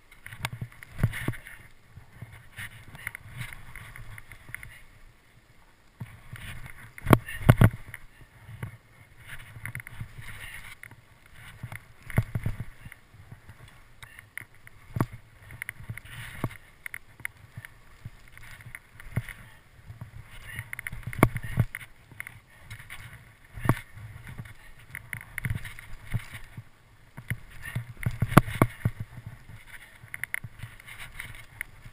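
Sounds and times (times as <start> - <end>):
wind rumbling on microphone: 0.0 - 31.9.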